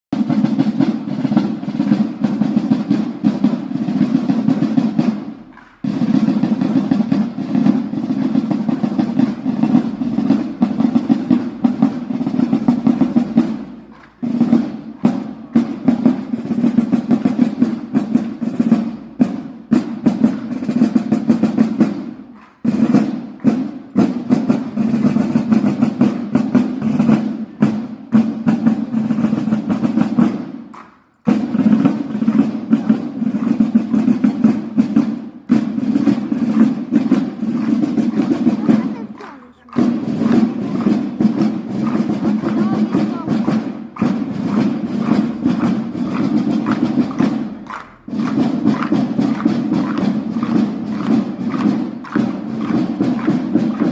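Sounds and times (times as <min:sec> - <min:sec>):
snare drum rolls: 0:00.1 - 0:53.9.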